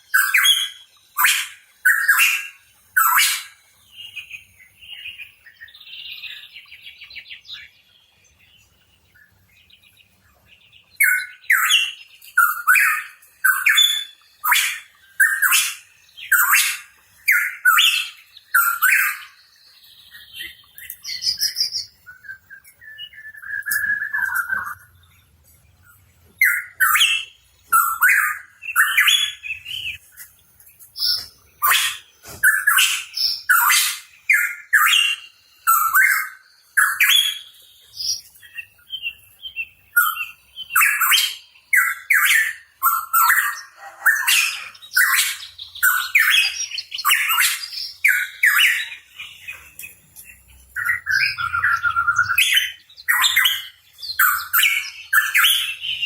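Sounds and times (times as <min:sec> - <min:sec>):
bird calling whistled and harsh notes: 0:00.0 - 0:07.9, 0:10.8 - 0:25.3, 0:26.0 - 0:30.2, 0:31.0 - 0:56.0.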